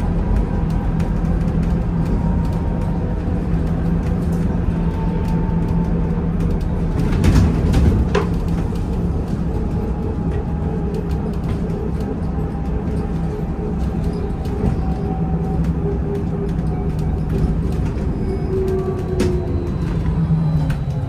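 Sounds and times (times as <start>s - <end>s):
road rumble: 0.0s - 21.0s.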